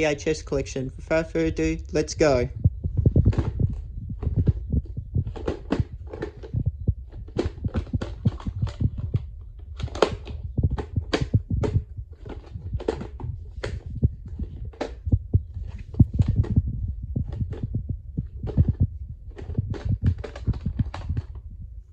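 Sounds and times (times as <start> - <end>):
low rumble: 0.0 - 21.9
plastic cases knocking and clacking: 2.4 - 21.5.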